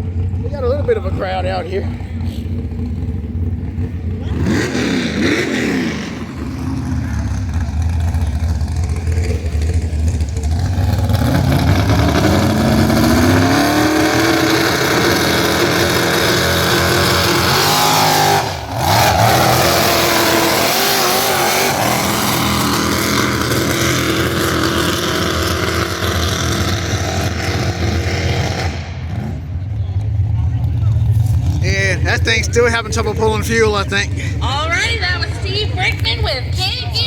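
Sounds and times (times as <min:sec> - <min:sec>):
tractor engine revving high: 0:00.0 - 0:37.0.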